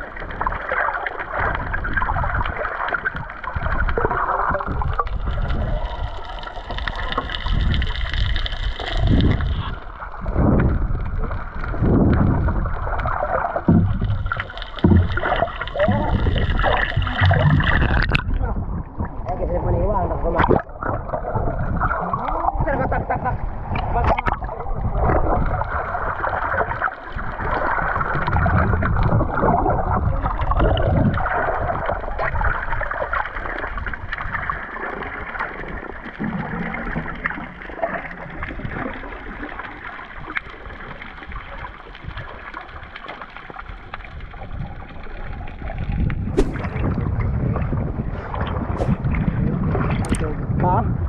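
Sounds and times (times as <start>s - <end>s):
low underwater rumble: 0.0s - 51.0s
muffled underwater sloshing: 0.0s - 51.0s.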